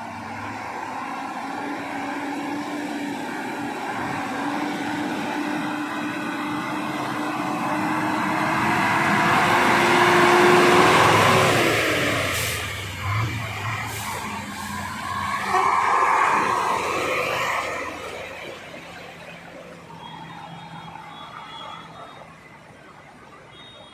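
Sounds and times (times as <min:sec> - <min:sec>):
diesel truck engines under load: 0:00.0 - 0:23.9.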